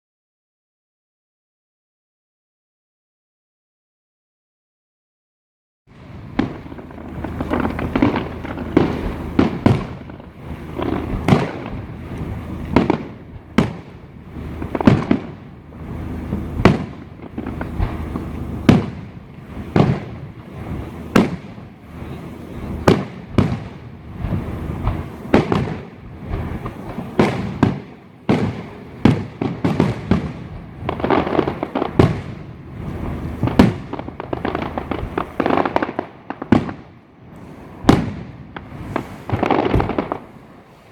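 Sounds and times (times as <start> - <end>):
crackling rumble of distant bursts: 5.9 - 40.9
fireworks sharp bangs: 5.9 - 40.9.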